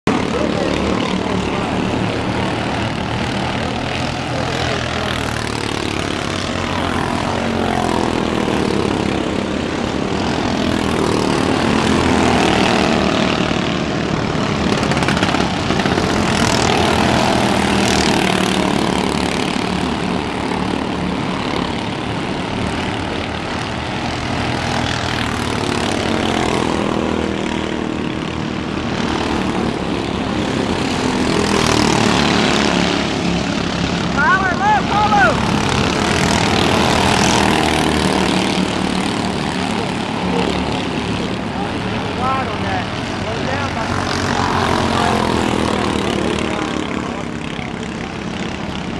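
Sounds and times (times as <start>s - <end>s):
racing car engines: 0.0s - 48.9s.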